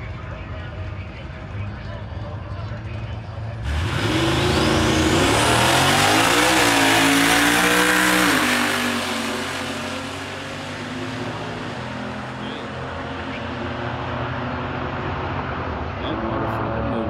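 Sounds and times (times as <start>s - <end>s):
racing engines at full throttle: 0.0s - 17.0s.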